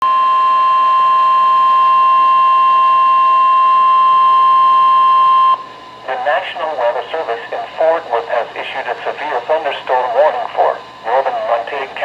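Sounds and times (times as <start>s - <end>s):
loud steady alarm tone: 0.0s - 12.0s.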